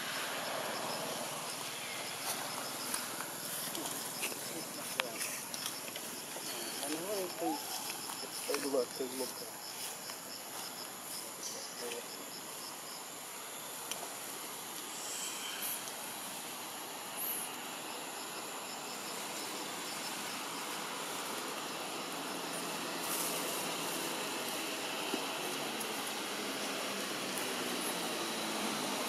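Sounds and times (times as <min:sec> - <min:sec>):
insects chirping and buzzing: 0:00.0 - 0:29.0
steady background hiss: 0:00.0 - 0:29.0.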